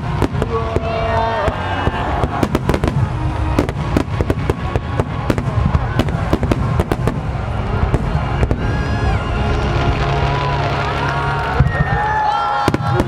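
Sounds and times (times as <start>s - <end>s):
fireworks bursting and crackling: 0.0s - 13.0s
music playing: 0.0s - 13.0s
low rumble: 1.4s - 12.2s.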